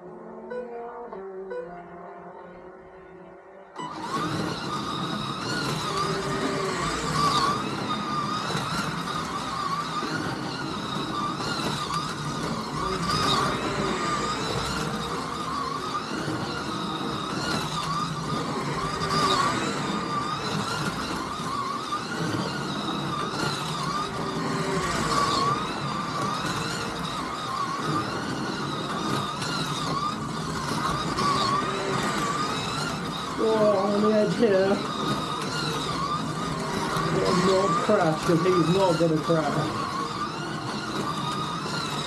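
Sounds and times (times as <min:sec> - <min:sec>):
slot car motors whining: 0:00.0 - 0:42.0.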